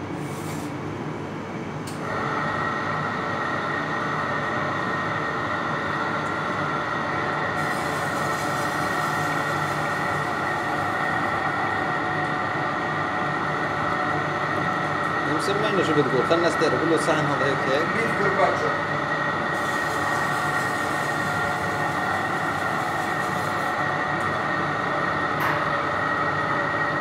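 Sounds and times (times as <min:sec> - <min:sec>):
kitchen background hum: 0:00.0 - 0:27.0
meat slicer motor whine: 0:02.0 - 0:27.0.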